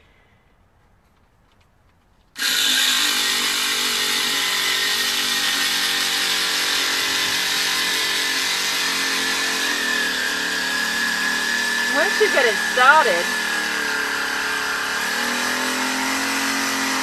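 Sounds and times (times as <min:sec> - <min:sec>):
small electric saw cutting: 0:02.4 - 0:17.0.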